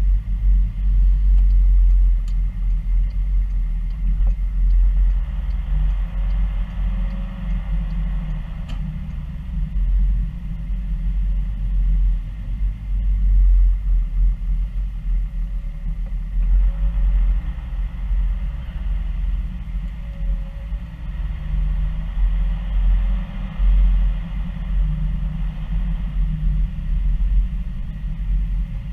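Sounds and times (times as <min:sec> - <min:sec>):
car engine and road noise: 0:00.0 - 0:28.9.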